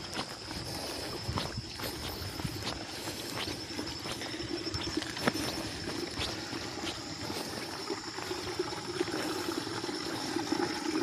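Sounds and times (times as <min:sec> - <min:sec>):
footsteps on a dirt path: 0:00.0 - 0:11.0
water trickling in a ditch: 0:00.0 - 0:11.0.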